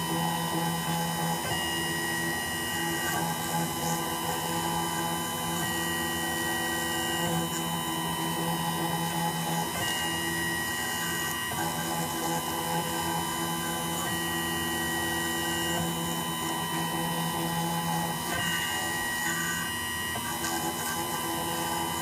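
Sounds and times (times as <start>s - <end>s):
milling machine spindle whine: 0.0s - 22.0s.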